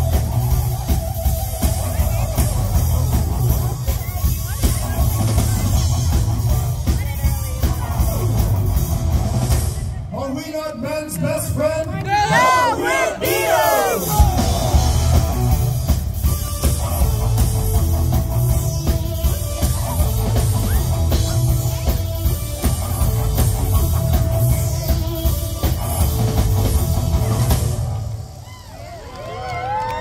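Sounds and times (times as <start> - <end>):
live rock band playing: 0.0 - 10.2, 12.3 - 29.0.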